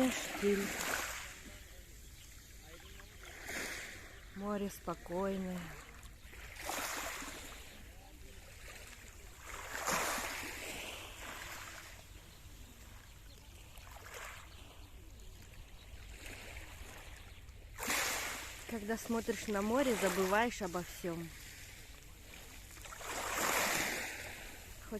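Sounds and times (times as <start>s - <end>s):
small waves washing ashore: 0.0s - 24.9s.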